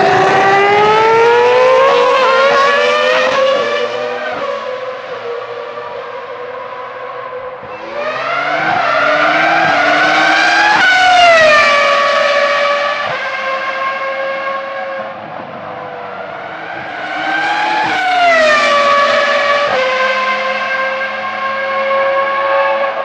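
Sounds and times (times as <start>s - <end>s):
racing car engine at high revs: 0.0s - 23.0s.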